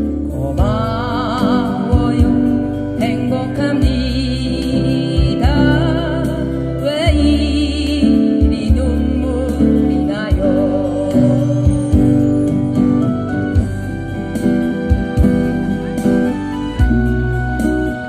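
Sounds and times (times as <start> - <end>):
amplified acoustic guitars: 0.0 - 18.0.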